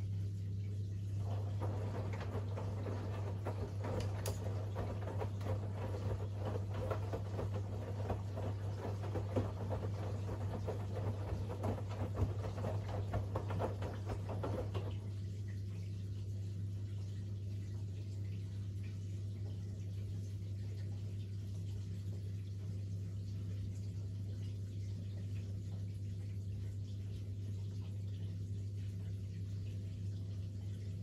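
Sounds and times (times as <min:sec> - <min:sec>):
low machine hum: 0:00.0 - 0:31.0
laundry tumbling in washing machine: 0:01.0 - 0:16.6, 0:18.8 - 0:31.0.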